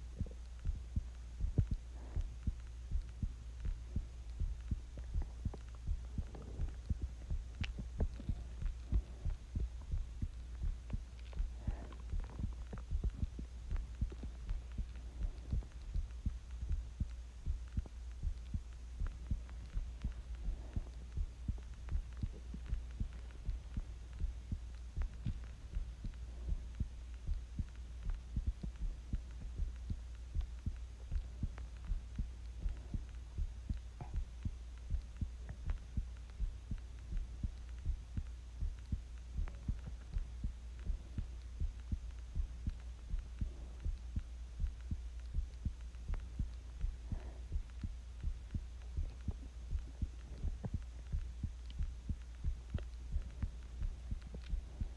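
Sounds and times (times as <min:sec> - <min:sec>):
constant low hum: 0:00.0 - 0:54.9
heartbeat thumps: 0:00.0 - 0:54.9.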